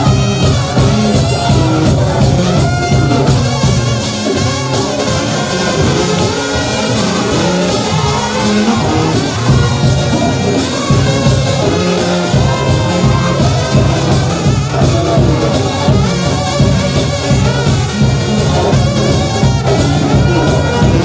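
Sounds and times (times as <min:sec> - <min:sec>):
brass band playing gospel: 0:00.0 - 0:21.0
drum kit beat: 0:00.0 - 0:21.0.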